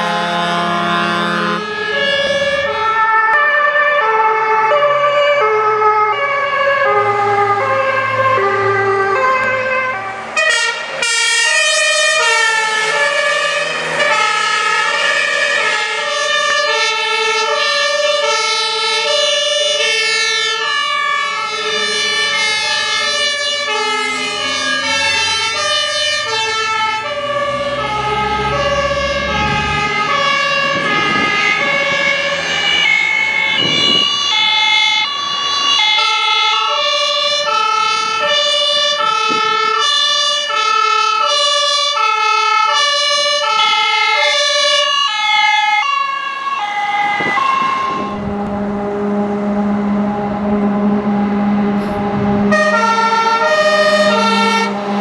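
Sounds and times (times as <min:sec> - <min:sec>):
heavy truck engine rumbling: 0:00.0 - 0:55.0
two-tone fire sirens: 0:00.0 - 0:55.0.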